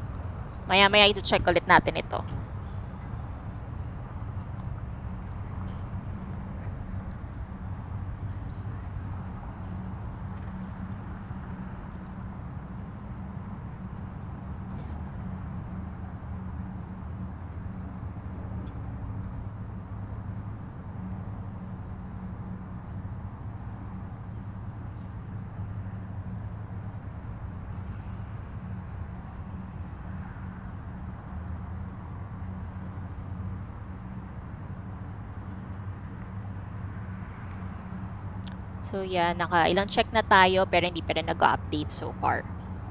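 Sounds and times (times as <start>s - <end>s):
car engine and tyre noise: 0.0s - 42.9s.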